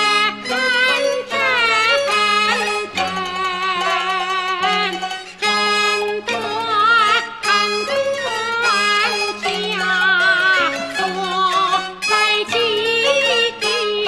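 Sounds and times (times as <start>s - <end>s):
bowed fiddles with vibrato: 0.0s - 14.0s.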